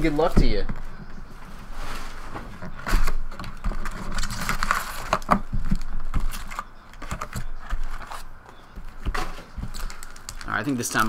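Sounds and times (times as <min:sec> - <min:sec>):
card packs rustling: 0:00.0 - 0:11.0.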